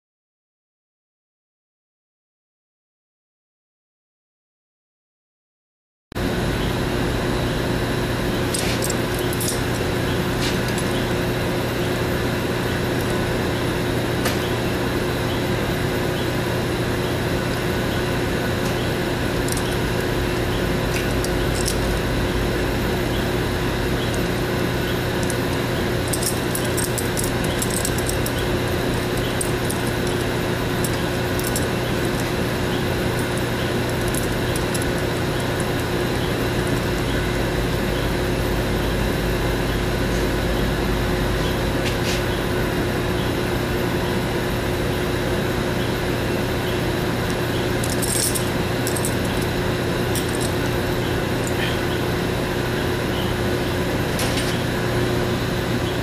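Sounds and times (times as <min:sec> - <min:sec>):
machinery hum and hiss: 0:06.2 - 0:56.0.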